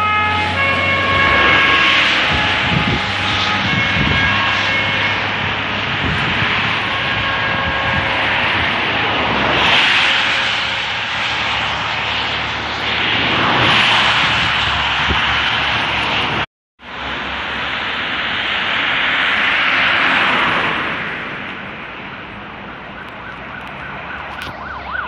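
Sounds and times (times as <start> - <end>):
traffic on a wet road: 0.0 - 25.0.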